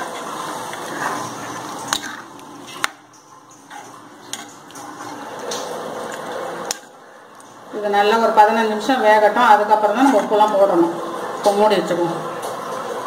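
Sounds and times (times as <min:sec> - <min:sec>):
liquid sloshing in a pan: 0:00.0 - 0:07.7, 0:09.2 - 0:12.8.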